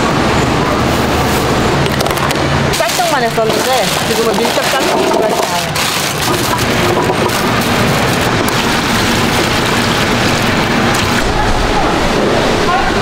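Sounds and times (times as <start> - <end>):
water pouring and splashing: 1.0 - 11.4.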